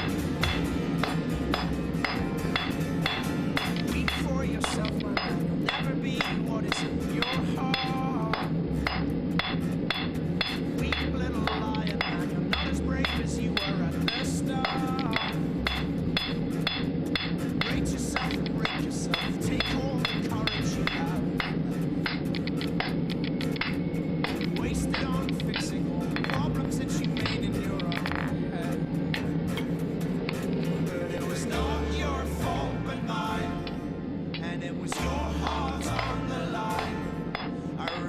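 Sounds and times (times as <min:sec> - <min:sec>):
hammer striking metal on anvil: 0:00.0 - 0:28.4, 0:33.6 - 0:38.0.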